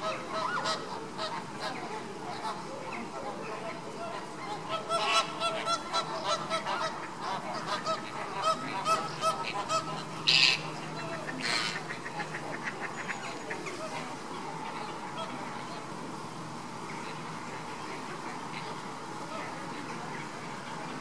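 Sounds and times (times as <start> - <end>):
flamingos honking: 0.0 - 21.0
harsh flamingo calls: 0.0 - 21.0.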